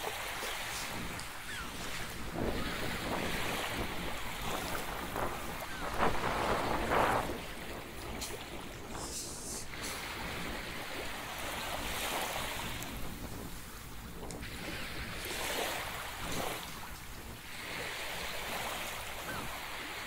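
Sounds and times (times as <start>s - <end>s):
waves washing on shore: 0.0s - 20.0s
wind buffeting microphone: 0.0s - 20.0s.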